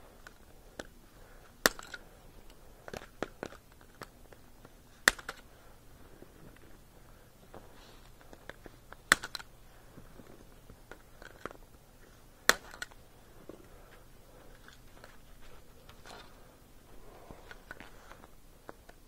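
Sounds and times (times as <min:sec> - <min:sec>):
gloved hands handling tubing: 0:00.2 - 0:16.6.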